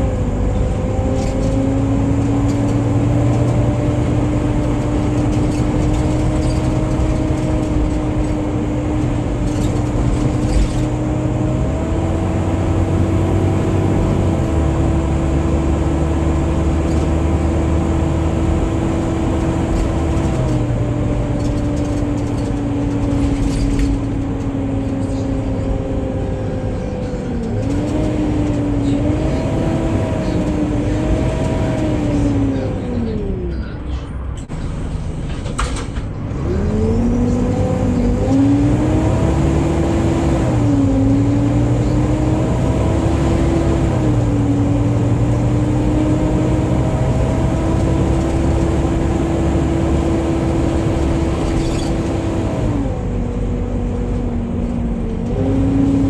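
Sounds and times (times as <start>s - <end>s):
bus engine whine: 0.0s - 56.0s.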